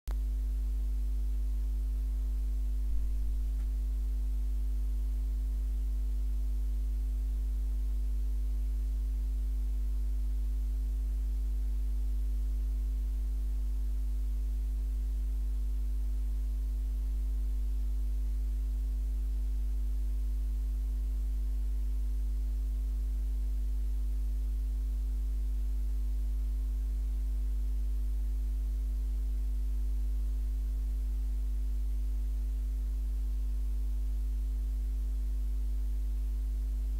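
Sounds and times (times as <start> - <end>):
electrical hum: 0.1 - 36.9.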